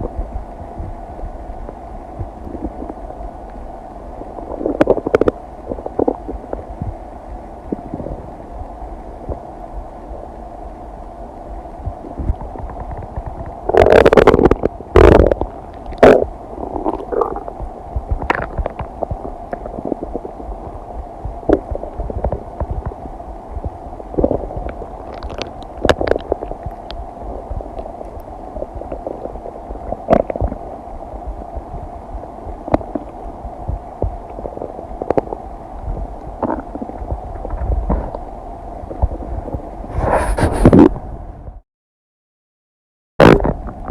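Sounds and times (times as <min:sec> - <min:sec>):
stomach gurgling: 0:01.6 - 0:03.2, 0:04.1 - 0:07.0, 0:07.7 - 0:08.4, 0:09.2 - 0:09.5, 0:11.8 - 0:41.0, 0:43.2 - 0:43.9.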